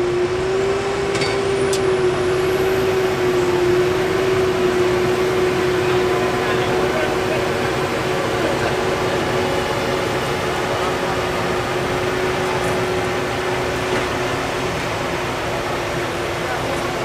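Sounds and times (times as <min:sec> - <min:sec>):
steady whine: 0:00.0 - 0:17.0
tractor diesel engine pulling: 0:00.0 - 0:17.0.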